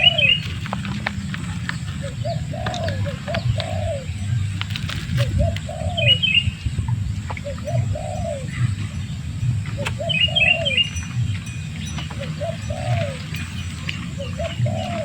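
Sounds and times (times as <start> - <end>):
dove cooing: 0.0 - 15.0
steady low rumble: 0.0 - 15.0.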